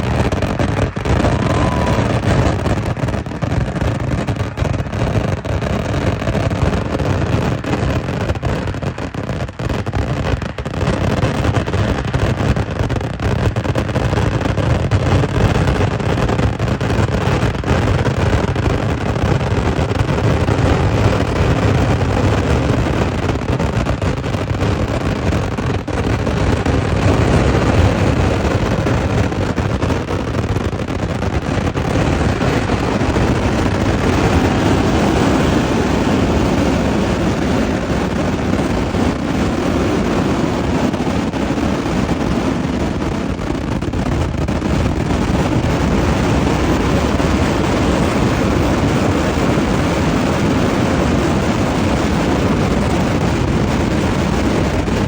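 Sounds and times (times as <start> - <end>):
firecrackers barrage rumbling: 0.0 - 55.0.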